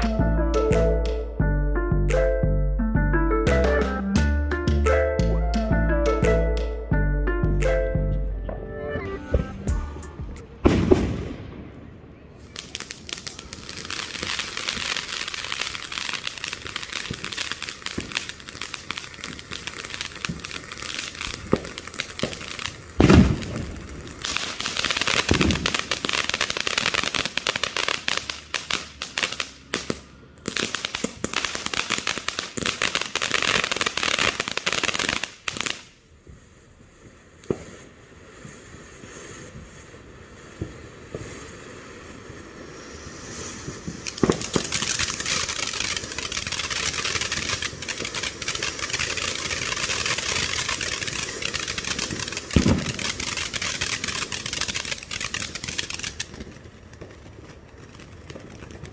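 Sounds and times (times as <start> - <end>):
firework fountain crackling hiss: 10.0 - 58.9.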